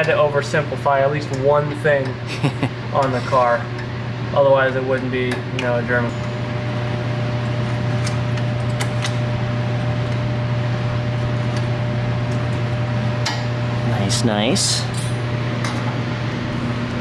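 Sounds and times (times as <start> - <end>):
low machine hum: 0.0 - 17.0
thin steady whine: 0.0 - 17.0.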